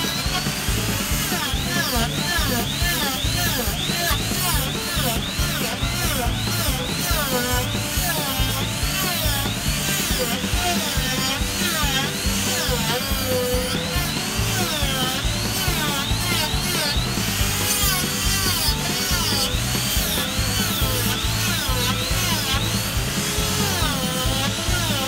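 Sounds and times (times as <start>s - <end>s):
music with sliding melody: 0.0s - 25.0s
rotary tool sanding wood: 0.0s - 25.0s.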